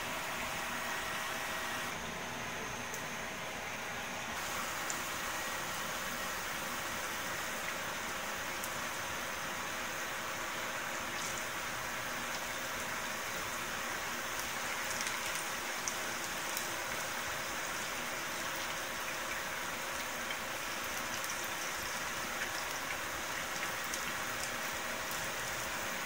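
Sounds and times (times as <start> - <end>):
oil frying with pops: 2.9 - 26.0.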